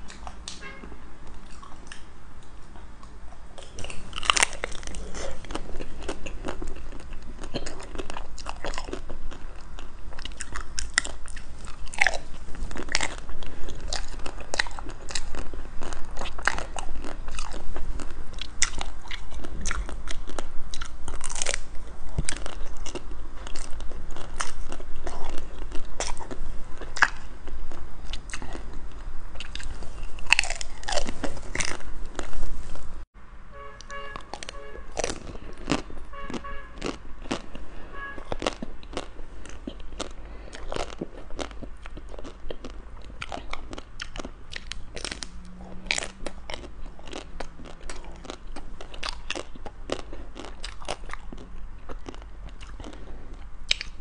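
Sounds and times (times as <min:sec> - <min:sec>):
ice cream coating crunching: 0:03.0 - 0:32.9, 0:33.8 - 0:54.0.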